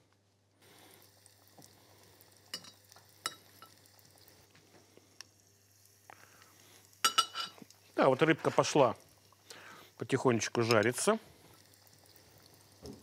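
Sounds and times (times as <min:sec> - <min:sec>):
oil frying with sizzle: 0:00.6 - 0:13.0.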